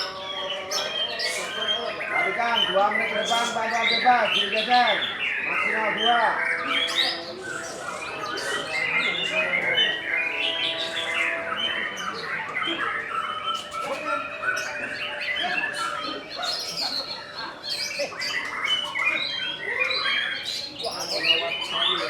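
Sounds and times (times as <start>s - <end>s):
songbirds singing in chorus: 0.0s - 22.0s.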